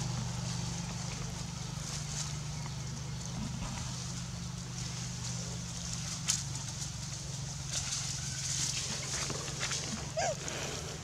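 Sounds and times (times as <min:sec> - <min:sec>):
dry leaves crackling: 0:00.0 - 0:11.0.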